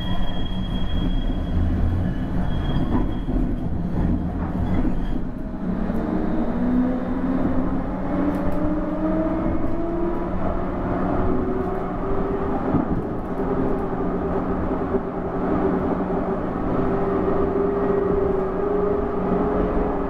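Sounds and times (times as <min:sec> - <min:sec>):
tram wheels rumbling: 0:00.0 - 0:20.0.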